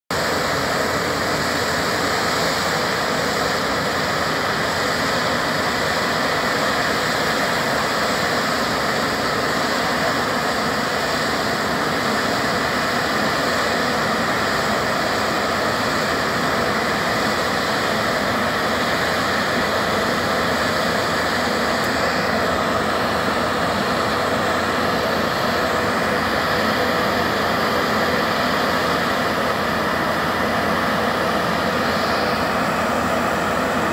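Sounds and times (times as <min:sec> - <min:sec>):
tracked vehicle engine running: 0:00.1 - 0:33.9.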